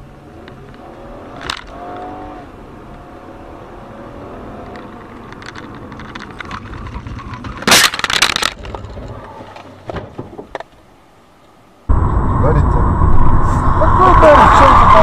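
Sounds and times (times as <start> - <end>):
car driving noise: 0.0 - 11.0, 11.7 - 15.0.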